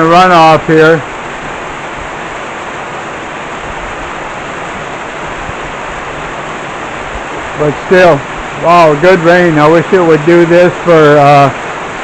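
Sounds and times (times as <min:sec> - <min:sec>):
rainwater runoff running: 0:00.0 - 0:12.0
steady rain falling: 0:00.0 - 0:12.0.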